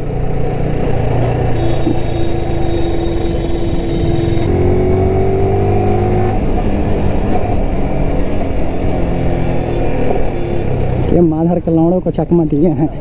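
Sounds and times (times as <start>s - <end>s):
motorcycle engine accelerating: 0.0s - 11.2s
road and wind noise: 0.0s - 13.0s.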